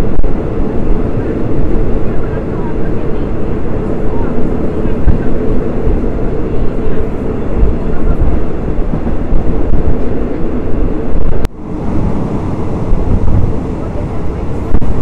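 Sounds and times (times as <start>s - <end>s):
hum: 0.0s - 15.0s
train rumble inside carriage: 0.0s - 15.0s.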